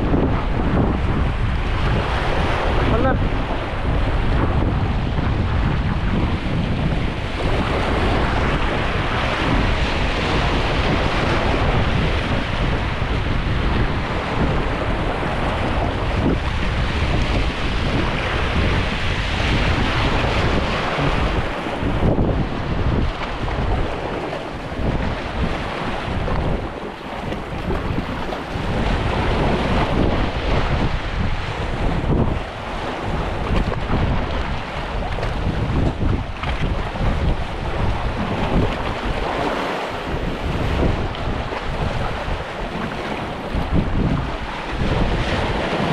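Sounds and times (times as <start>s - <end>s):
sea surf rushing: 0.0s - 45.9s
wind buffeting microphone: 0.0s - 45.9s.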